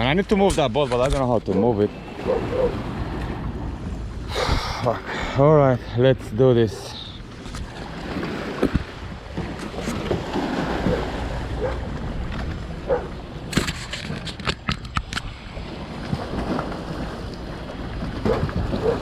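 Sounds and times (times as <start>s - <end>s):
wind rumbling on microphone: 0.0s - 6.4s, 7.1s - 19.0s
water sloshing around boats: 0.0s - 19.0s.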